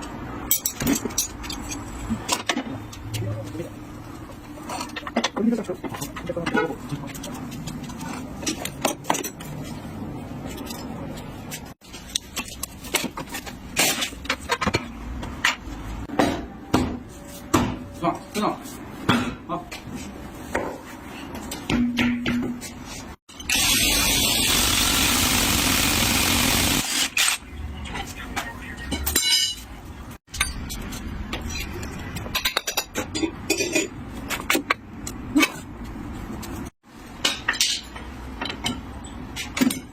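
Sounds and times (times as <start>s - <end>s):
low workshop background: 0.0s - 39.9s.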